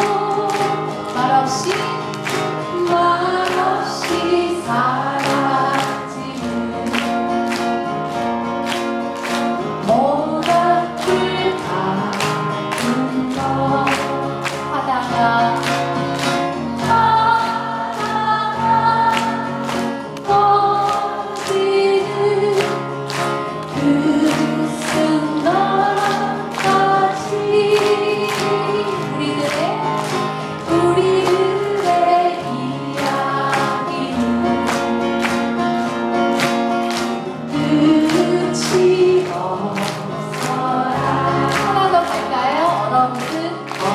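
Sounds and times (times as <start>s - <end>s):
person singing folk song: 0.0s - 43.9s
strummed accompaniment: 0.0s - 43.9s.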